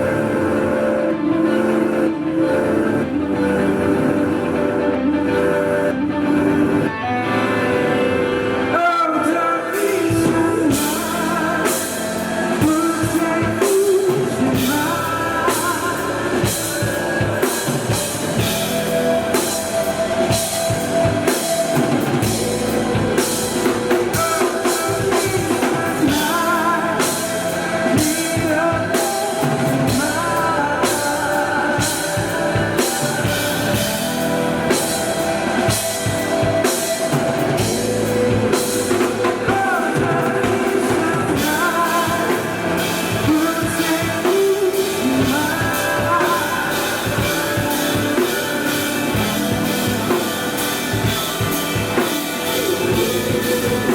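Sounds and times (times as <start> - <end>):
drum kit: 0.0 - 53.9
guitar: 0.0 - 53.9
person singing: 0.0 - 53.9.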